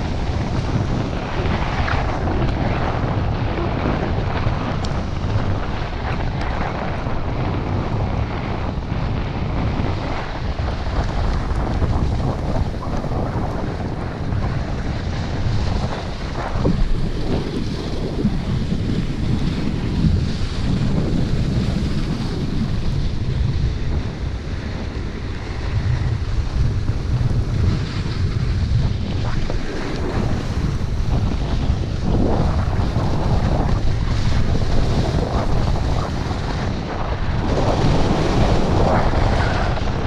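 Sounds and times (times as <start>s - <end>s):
snowboard sliding over snow: 0.0s - 40.0s
wind buffeting microphone: 0.0s - 40.0s.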